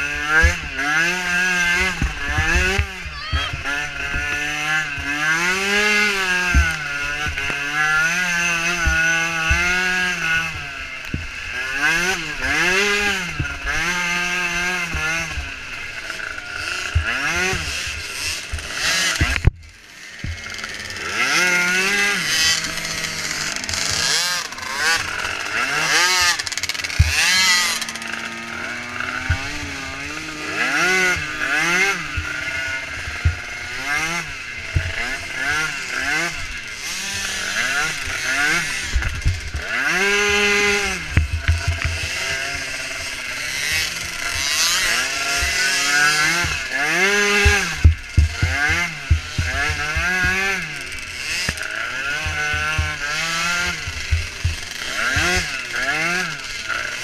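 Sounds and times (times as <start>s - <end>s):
small atv engines racing: 0.0s - 57.0s.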